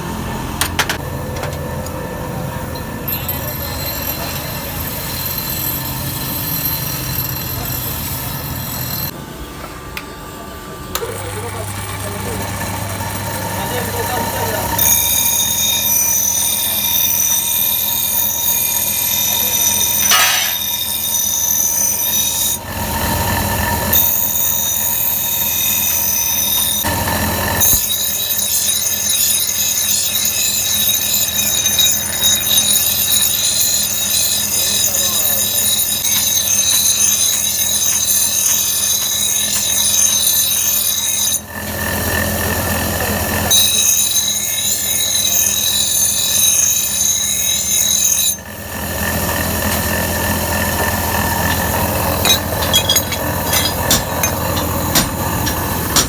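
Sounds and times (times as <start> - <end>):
grinder whining against steel: 0.0 - 56.0.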